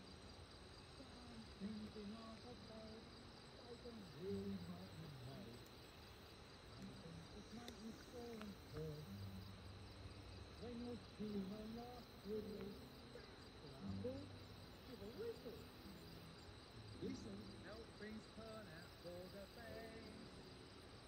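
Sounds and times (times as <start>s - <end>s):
crickets trilling: 0.0s - 21.0s
faint distant voice-like tones: 0.0s - 21.0s.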